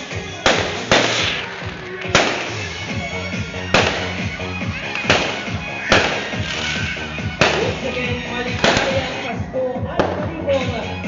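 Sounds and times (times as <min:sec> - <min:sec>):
fireworks exploding: 0:00.0 - 0:09.4, 0:10.0 - 0:10.8
music playing: 0:00.0 - 0:11.0.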